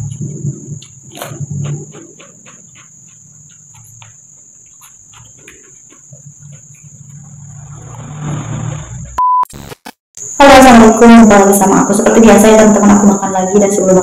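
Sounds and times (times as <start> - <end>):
cricket trilling: 0.0 - 9.1, 10.2 - 14.0.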